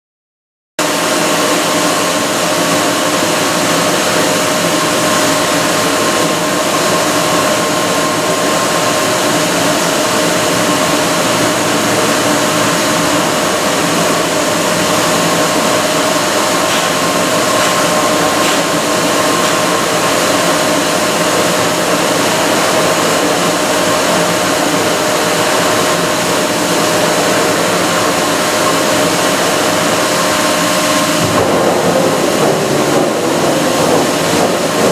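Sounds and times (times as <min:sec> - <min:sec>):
machine whirring with whine: 0:00.8 - 0:34.9.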